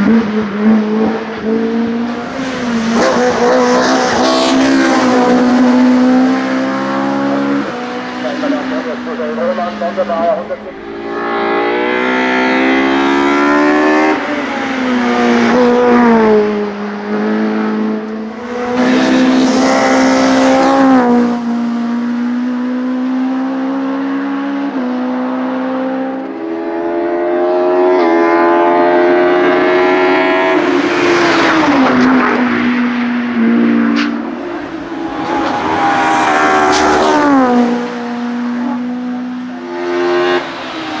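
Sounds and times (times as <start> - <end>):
car engine at high revs: 0.0 - 41.0.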